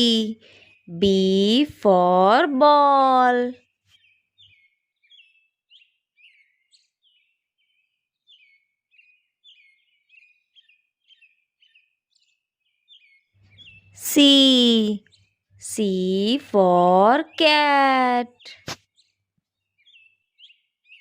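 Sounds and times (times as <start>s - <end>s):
faint bird chirping: 0.0s - 21.0s.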